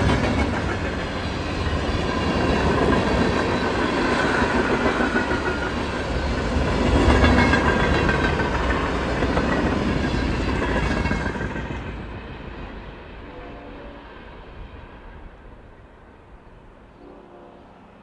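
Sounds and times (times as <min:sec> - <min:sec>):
freight train rolling on rails: 0:00.0 - 0:18.0.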